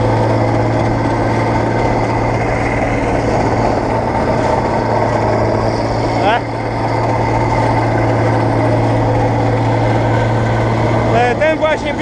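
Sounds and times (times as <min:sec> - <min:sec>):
combine harvester working: 0:00.0 - 0:12.0.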